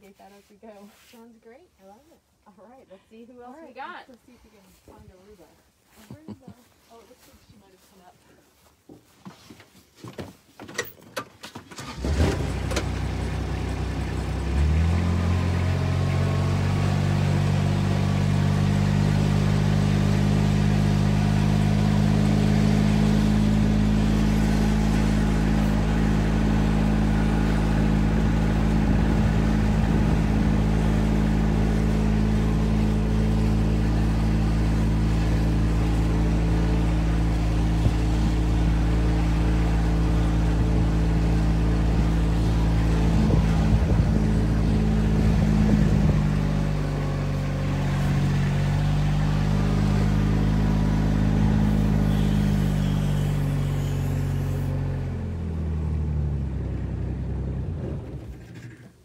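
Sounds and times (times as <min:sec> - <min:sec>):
utility vehicle engine running: 0:11.7 - 0:59.0.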